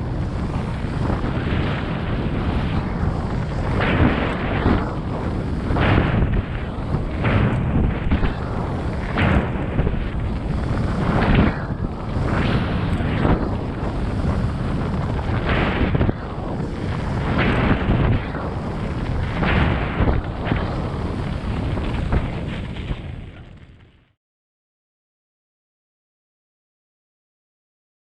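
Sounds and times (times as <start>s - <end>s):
wind buffeting microphone: 0.0s - 23.6s.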